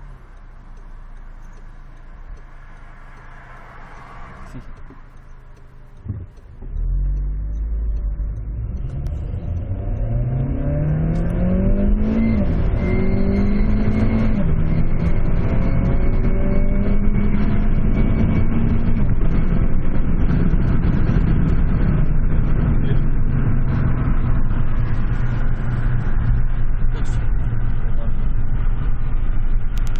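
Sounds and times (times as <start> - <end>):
car engine accelerating hard: 0.0 - 29.9
road and wind noise: 0.0 - 29.9.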